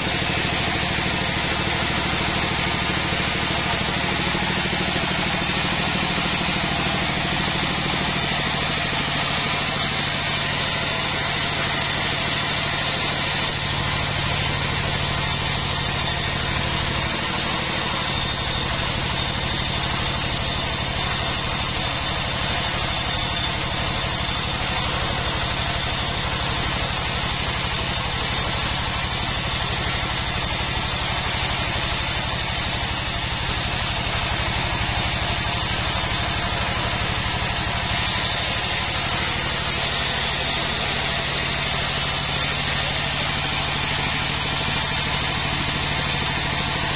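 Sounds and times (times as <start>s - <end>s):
saw blade high whine: 0.0s - 46.9s
sawmill machine hum: 0.0s - 46.9s.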